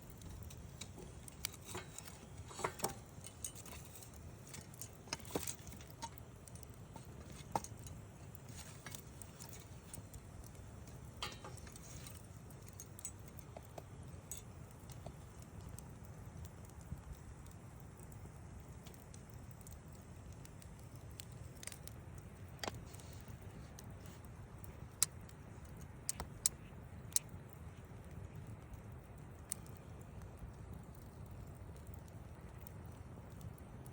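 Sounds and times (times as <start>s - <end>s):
campfire crackling and popping: 0.0s - 33.9s
low steady fire rumble: 0.0s - 33.9s.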